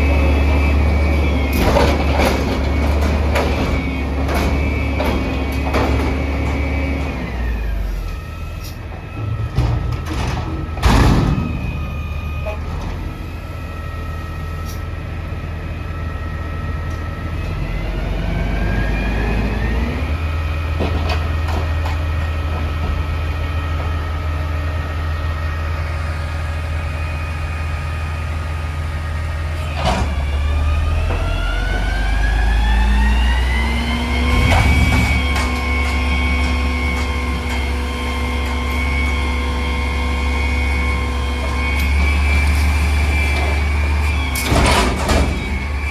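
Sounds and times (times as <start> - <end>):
garbage truck engine revving: 0.0 - 14.2, 15.2 - 45.9.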